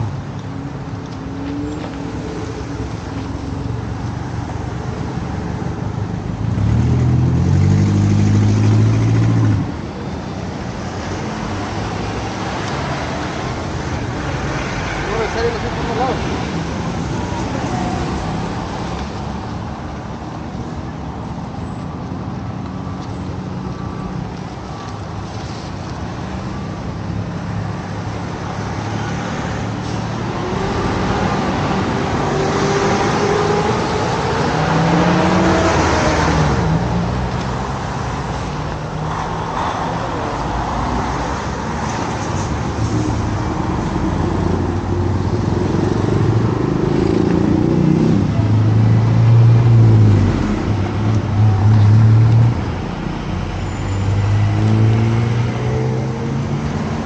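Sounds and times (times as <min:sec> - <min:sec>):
passing traffic: 0:00.0 - 0:57.0.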